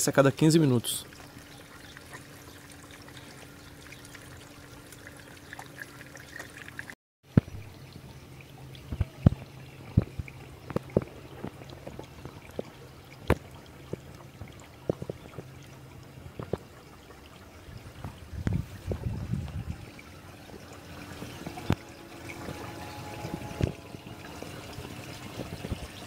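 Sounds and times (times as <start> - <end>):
water trickling and pouring: 0.0 - 26.0
water dripping and splashing: 0.5 - 26.0.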